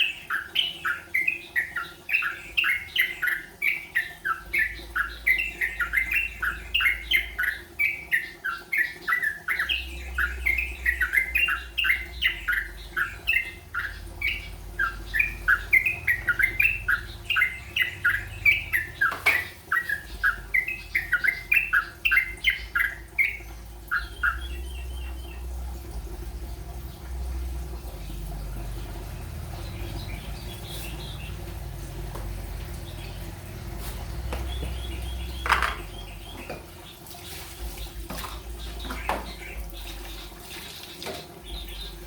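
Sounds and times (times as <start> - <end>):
bird chattering song: 0.0 - 42.0.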